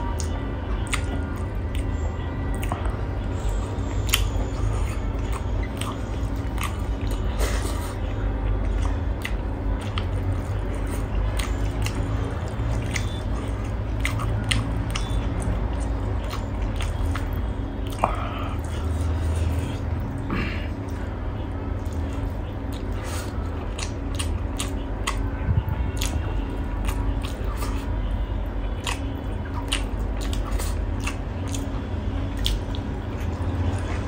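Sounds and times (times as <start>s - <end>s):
low steady rumble: 0.0s - 34.0s
mouth chewing food: 0.0s - 34.0s.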